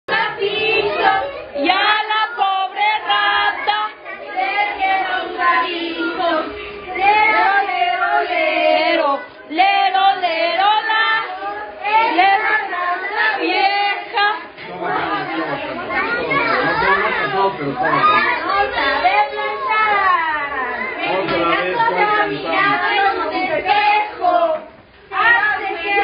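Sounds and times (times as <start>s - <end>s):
women and children singing: 0.1s - 26.0s.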